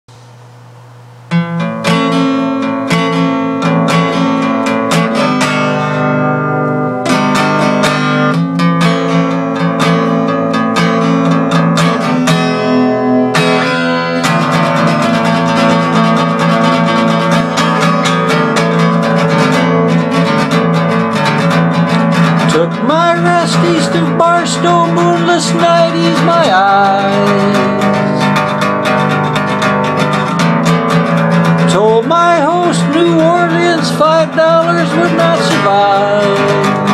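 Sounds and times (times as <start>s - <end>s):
acoustic guitar strumming: 0.1s - 36.9s.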